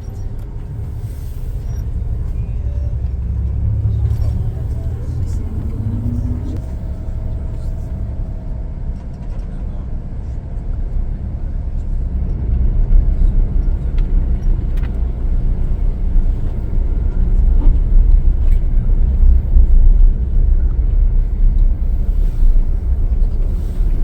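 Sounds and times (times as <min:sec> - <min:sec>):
vehicle road rumble and engine: 0:00.0 - 0:24.0.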